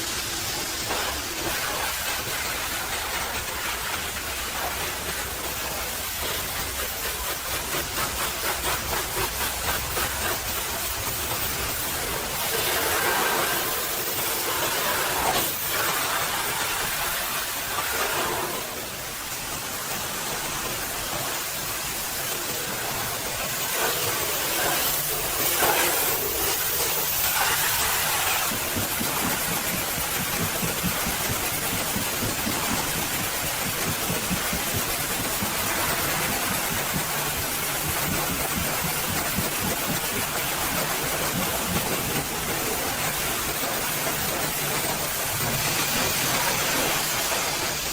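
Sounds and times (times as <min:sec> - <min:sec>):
pressure washer spray hissing: 0:00.0 - 0:47.9.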